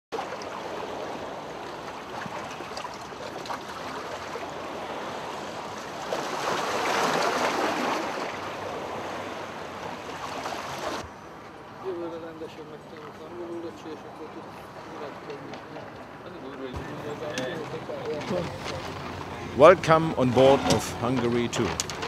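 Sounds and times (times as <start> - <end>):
water rushing along boat hulls: 0.1 - 22.0
wind: 0.1 - 22.0.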